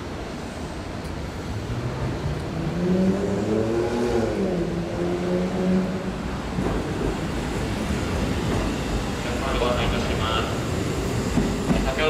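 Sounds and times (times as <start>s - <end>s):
rumble of rolling train: 0.0s - 12.0s.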